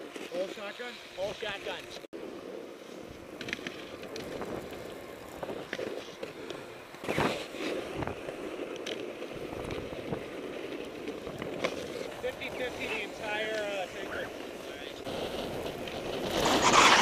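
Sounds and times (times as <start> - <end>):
skis scraping on packed snow: 0.0 - 17.0.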